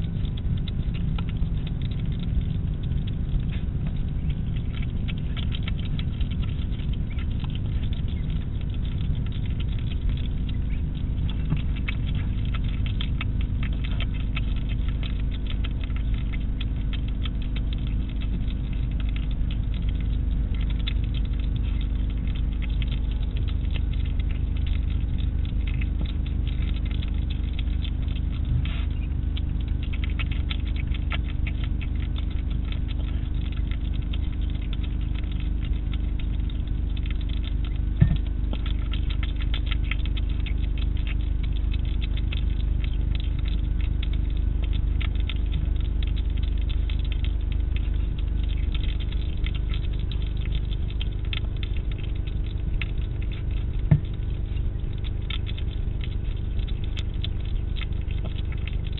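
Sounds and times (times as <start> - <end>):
hedgehog chewing and smacking: 0.0 - 58.9
steady low hum: 0.0 - 58.9.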